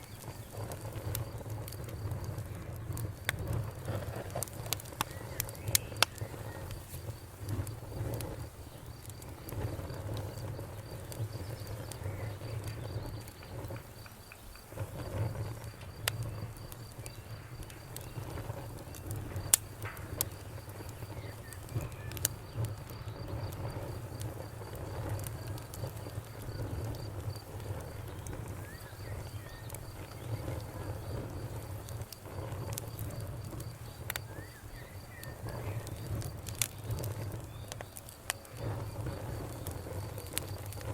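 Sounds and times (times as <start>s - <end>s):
campfire crackling: 0.0s - 40.9s
cricket chirping: 0.0s - 40.9s.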